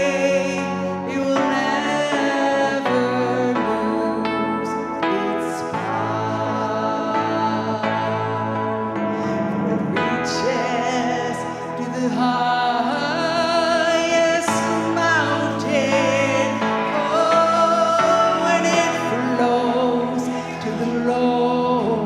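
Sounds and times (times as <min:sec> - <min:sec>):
keyboard chords: 0:00.0 - 0:22.0
person singing with vibrato: 0:00.0 - 0:22.0.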